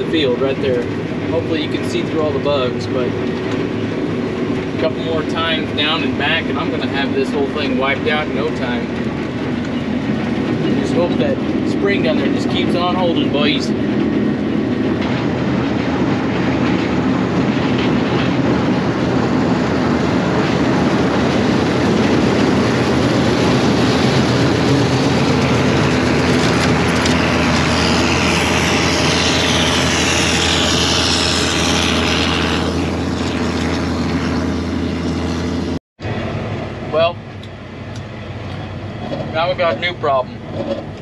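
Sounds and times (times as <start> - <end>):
engine drone from inside cab: 0.0 - 41.0.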